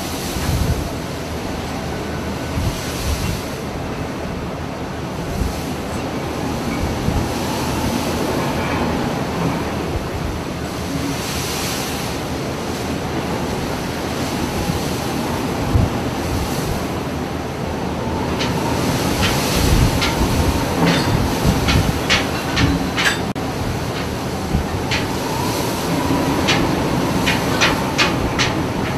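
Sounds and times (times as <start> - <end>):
ferry engine rumbling: 0.0 - 28.9.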